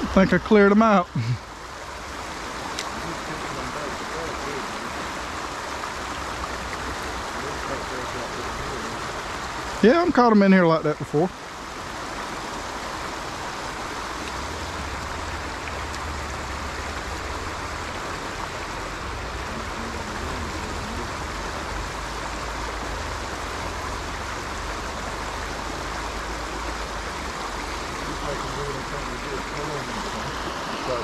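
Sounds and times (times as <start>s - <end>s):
water rushing over a dam: 0.0s - 31.0s.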